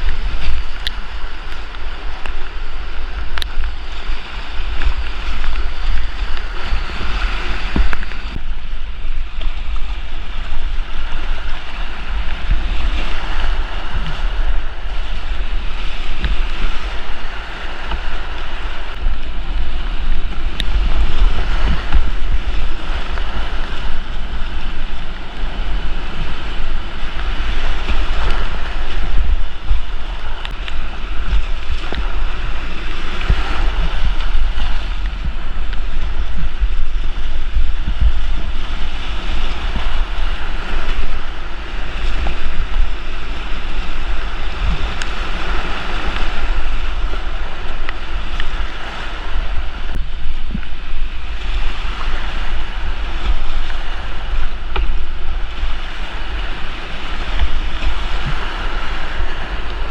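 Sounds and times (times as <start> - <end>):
creek water rushing: 0.0 - 59.9
wind buffeting microphone: 0.0 - 59.9.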